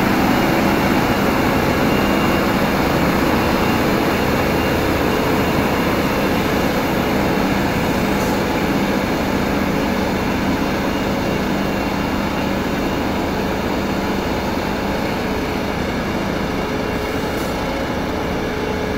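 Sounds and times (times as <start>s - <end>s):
heavy diesel engines running: 0.0s - 18.9s.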